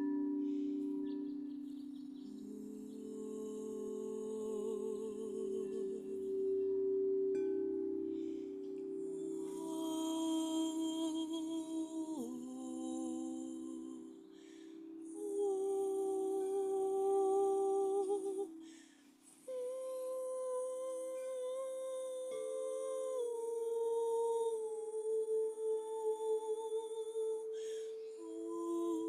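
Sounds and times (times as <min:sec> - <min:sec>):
person humming held notes: 0:00.0 - 0:29.0.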